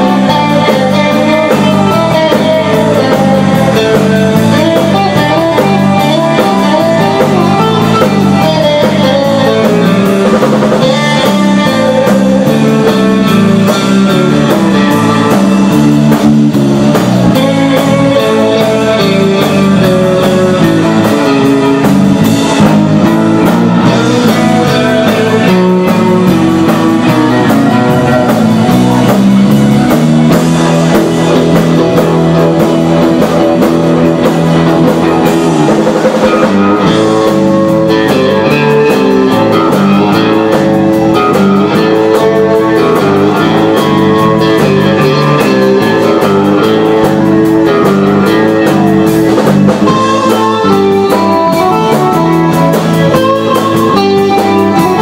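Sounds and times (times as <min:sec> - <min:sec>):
bass guitar: 0:00.0 - 0:55.0
drum kit: 0:00.0 - 0:55.0
twangy electric guitar melody: 0:00.0 - 0:55.0.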